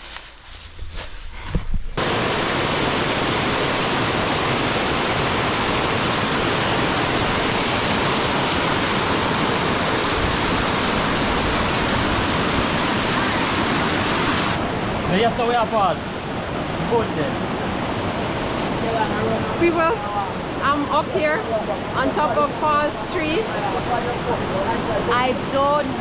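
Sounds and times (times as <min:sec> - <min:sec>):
waterfall rushing: 0:02.0 - 0:26.0.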